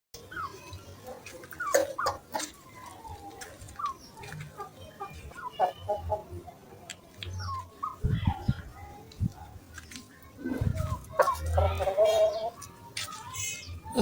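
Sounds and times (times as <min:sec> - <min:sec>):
chickens clucking: 0:00.2 - 0:14.0.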